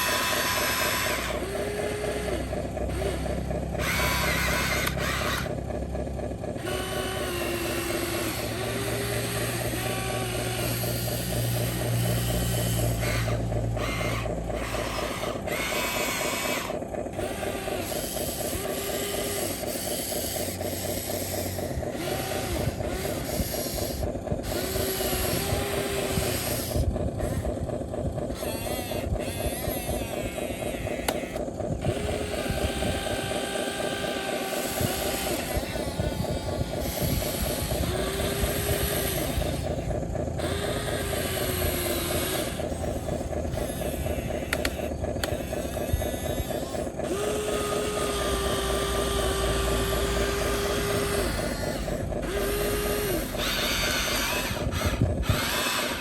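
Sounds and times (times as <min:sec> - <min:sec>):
small electric motors whirring: 0:00.0 - 0:56.0.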